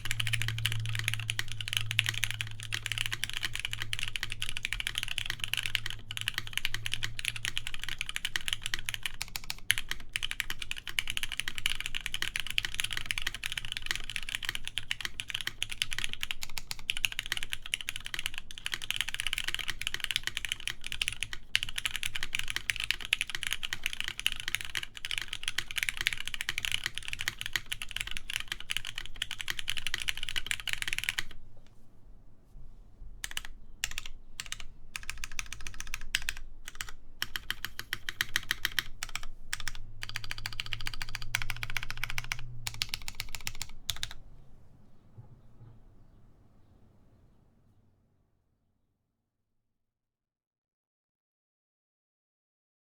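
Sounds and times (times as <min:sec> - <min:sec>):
typing on mechanical keyboard: 0:00.0 - 0:31.4, 0:33.2 - 0:44.2.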